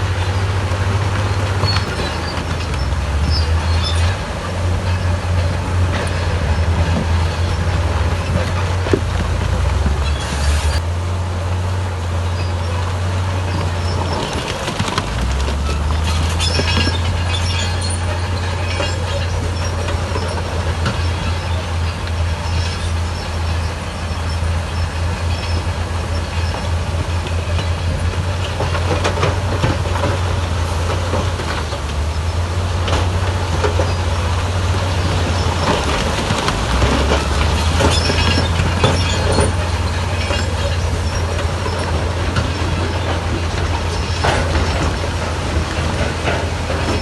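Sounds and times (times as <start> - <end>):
diesel engine drone: 0.0 - 47.0
metallic clanks and knocks: 0.2 - 10.2, 13.4 - 47.0.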